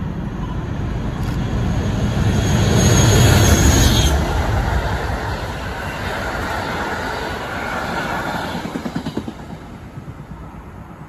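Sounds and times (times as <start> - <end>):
diesel locomotive engine: 0.0 - 11.0
train wheels rolling: 1.2 - 11.0.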